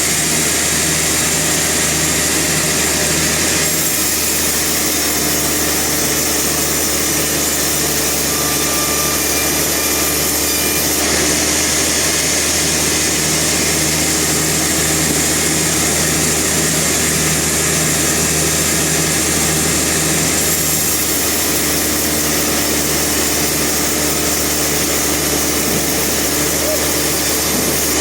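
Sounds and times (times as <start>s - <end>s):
sawmill machinery engine drone: 0.0s - 28.0s.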